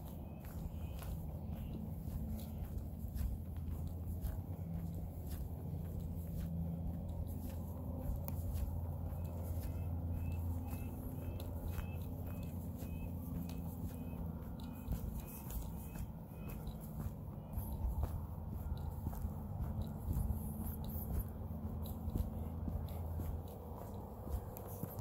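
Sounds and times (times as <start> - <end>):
footsteps on trail: 0.0 - 25.0
steady low rumble: 0.0 - 25.0.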